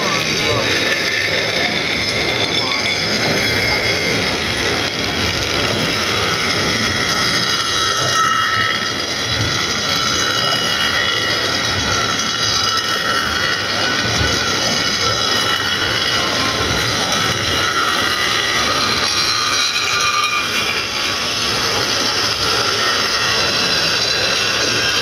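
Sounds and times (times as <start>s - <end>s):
high whine: 0.0s - 25.0s
wheels rolling on rails: 0.0s - 25.0s.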